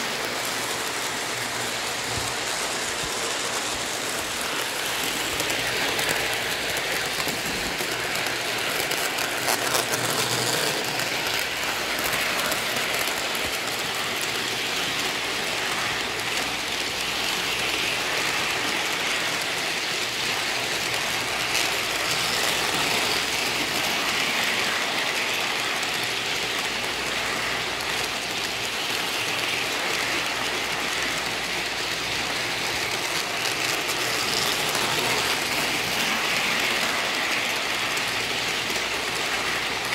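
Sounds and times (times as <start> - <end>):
model train wheels rolling on rails: 0.0 - 39.9.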